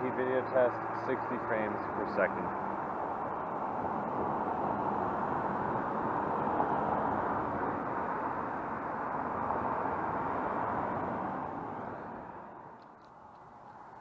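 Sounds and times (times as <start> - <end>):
car passing close: 0.0 - 14.0
road traffic rush: 0.0 - 14.0.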